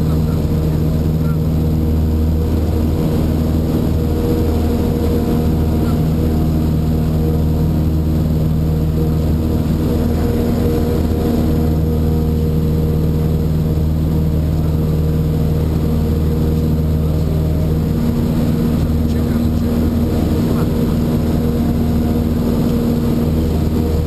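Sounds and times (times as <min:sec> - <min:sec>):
airplane engine and propeller: 0:00.0 - 0:24.0.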